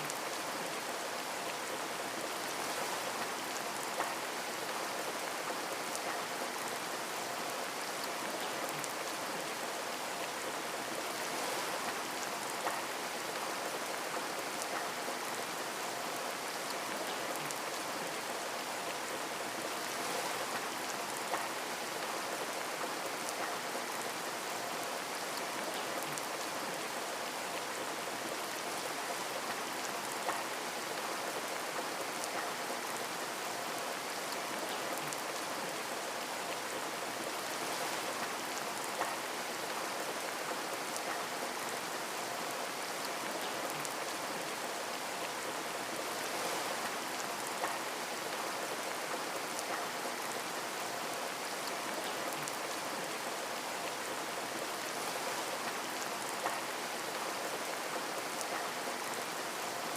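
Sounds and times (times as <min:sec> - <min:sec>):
rain falling on a window: 0:00.0 - 0:59.9.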